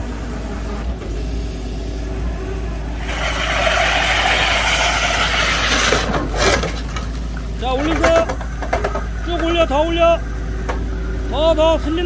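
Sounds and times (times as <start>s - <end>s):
excavator engine under hydraulic load: 0.0s - 12.0s.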